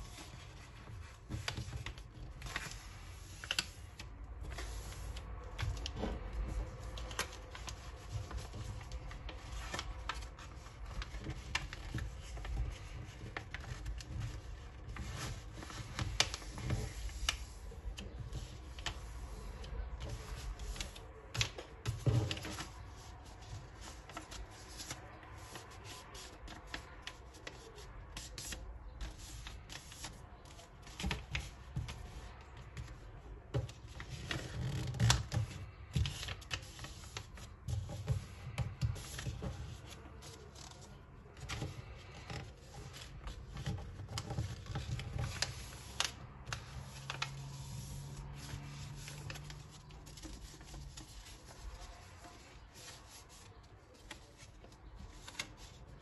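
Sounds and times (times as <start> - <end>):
paper rustling and creasing: 0.0 - 56.0.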